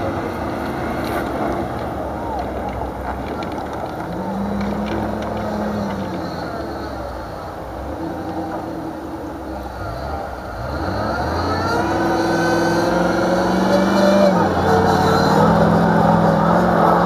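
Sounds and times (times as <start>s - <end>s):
off-road engines revving: 0.0s - 17.0s.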